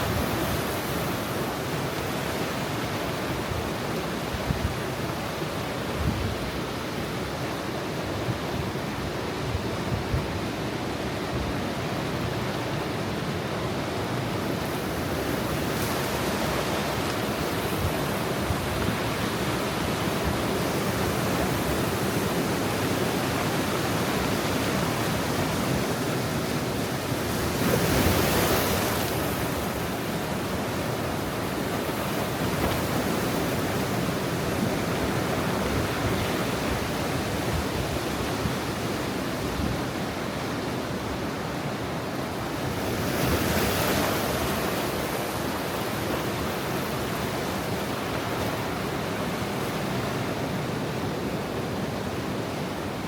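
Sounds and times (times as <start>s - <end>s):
ocean waves washing in: 0.0s - 53.0s.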